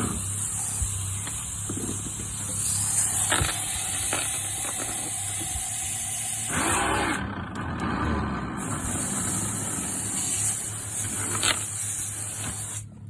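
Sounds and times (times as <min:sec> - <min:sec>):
electric motor humming and hissing: 0:00.0 - 0:13.0.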